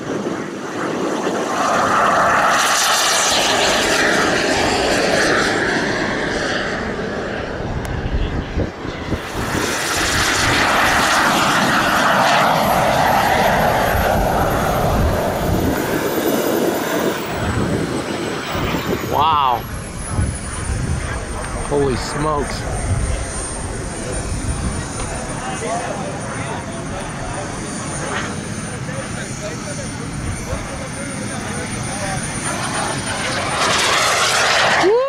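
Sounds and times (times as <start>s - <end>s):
high turbine whine: 0.0s - 35.0s
model jet engine roar: 0.0s - 35.0s.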